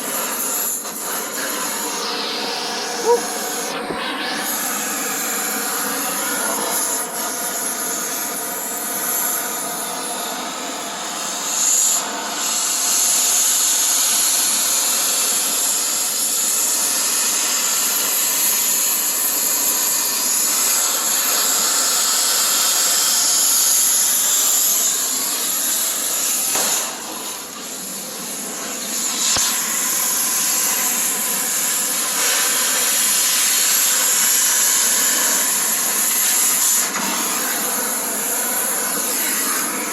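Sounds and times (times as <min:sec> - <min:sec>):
cutting torch hissing: 0:00.0 - 0:39.9.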